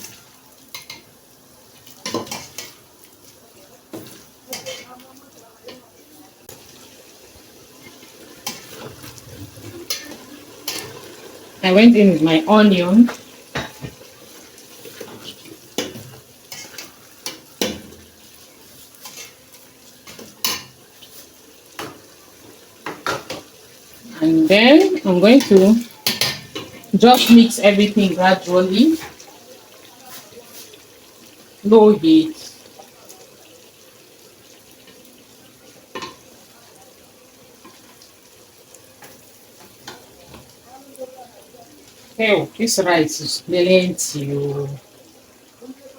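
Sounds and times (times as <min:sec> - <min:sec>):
faint frying sizzle: 0:00.0 - 0:45.9.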